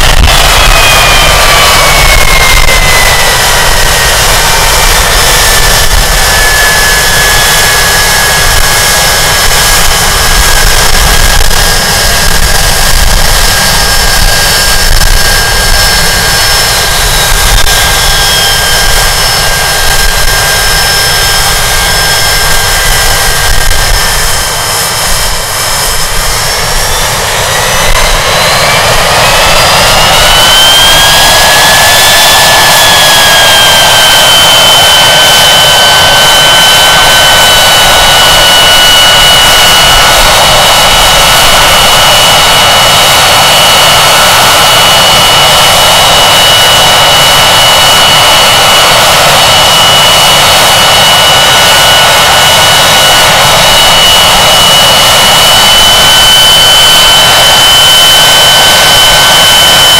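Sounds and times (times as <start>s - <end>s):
jet engine roar and whine: 0.0s - 59.9s.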